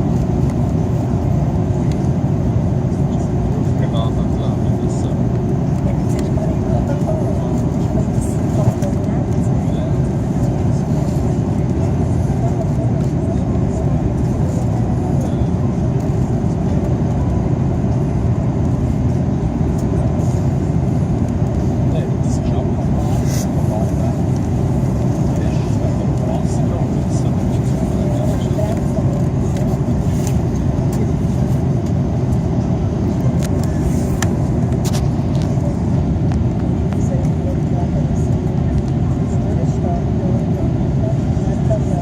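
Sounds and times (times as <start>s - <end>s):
jet engine and airflow noise: 0.0s - 42.0s.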